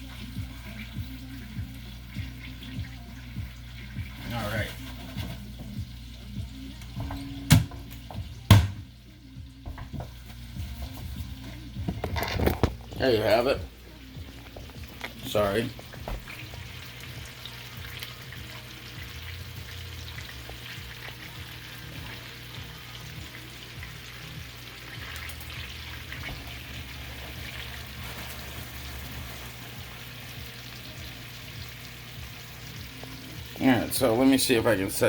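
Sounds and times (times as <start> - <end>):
fish sizzling in butter: 0.0 - 6.7, 10.1 - 35.0.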